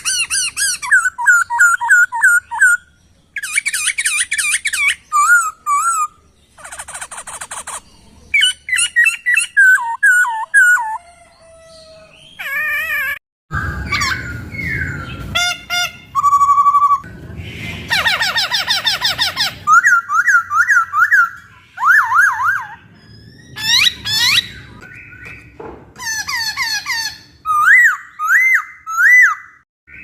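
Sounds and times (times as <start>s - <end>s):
bird song with whistles and trills: 0.0s - 30.0s.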